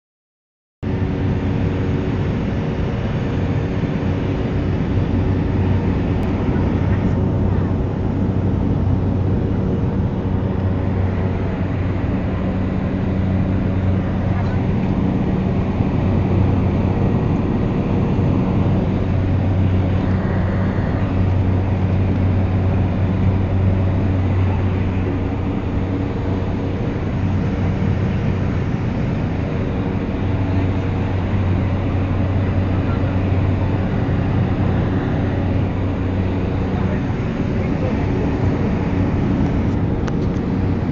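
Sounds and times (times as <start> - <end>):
airplane engine drone: 0.8 - 40.9.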